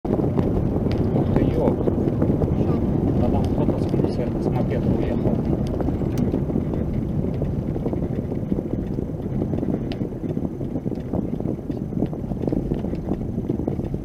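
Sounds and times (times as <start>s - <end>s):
vehicle road and wind noise: 0.0s - 14.0s.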